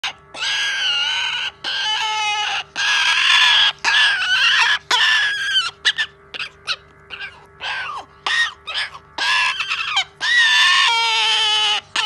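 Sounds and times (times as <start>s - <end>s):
cockatoo screeching: 0.0s - 12.0s.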